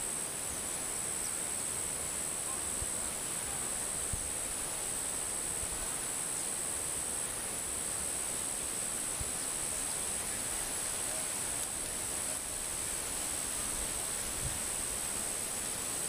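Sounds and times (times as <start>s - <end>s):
high-pitched insect chorus: 0.0s - 16.0s
soft outdoor hiss: 0.0s - 16.0s.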